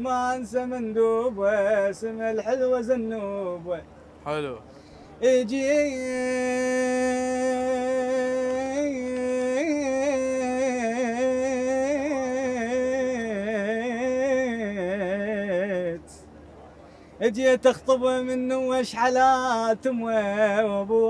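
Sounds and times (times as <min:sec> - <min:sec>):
man singing unaccompanied: 0:00.0 - 0:04.6, 0:05.2 - 0:16.2, 0:17.2 - 0:21.0.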